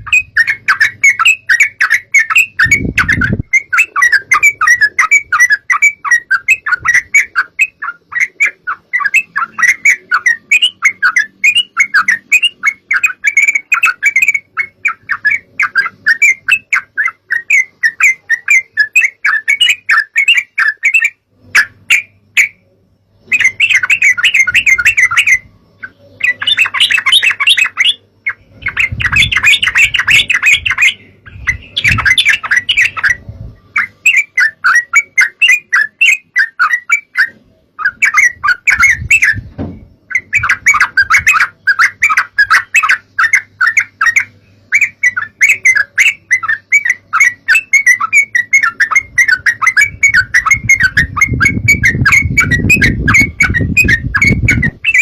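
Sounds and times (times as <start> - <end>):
bulbul chattering: 0.0 - 55.0.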